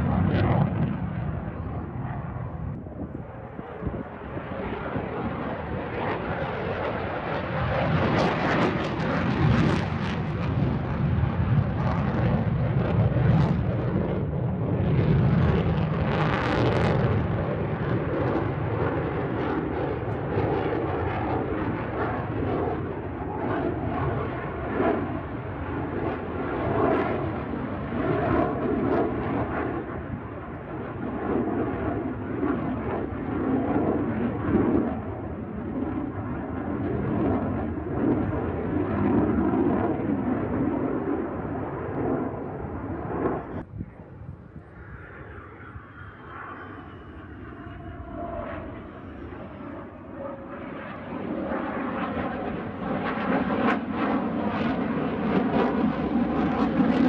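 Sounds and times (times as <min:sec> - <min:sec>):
jet engine rushing overhead: 0:00.0 - 0:57.0.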